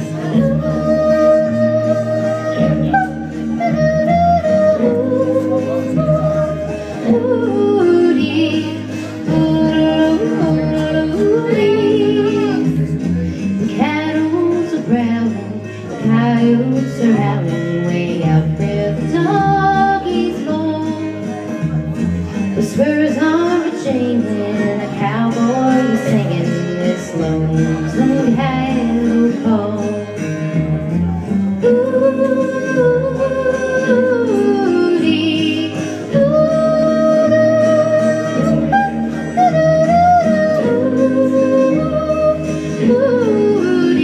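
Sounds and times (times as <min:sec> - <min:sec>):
person singing: 0:00.0 - 0:44.0
plucked guitar: 0:00.0 - 0:44.0.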